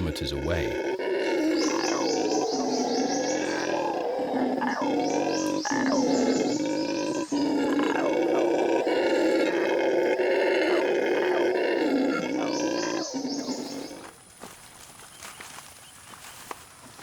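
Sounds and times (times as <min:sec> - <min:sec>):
howler monkeys roaring: 0:00.0 - 0:14.0.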